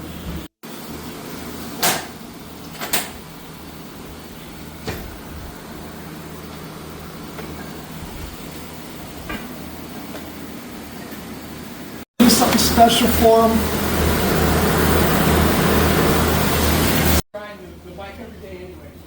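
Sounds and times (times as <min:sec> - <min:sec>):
steady low hum: 0:02.1 - 0:19.0.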